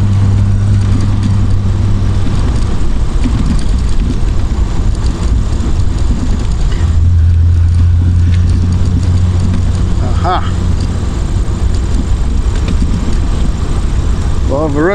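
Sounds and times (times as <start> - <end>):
car engine running: 0.0 - 14.9
road noise: 0.0 - 14.9
wind: 0.0 - 14.9.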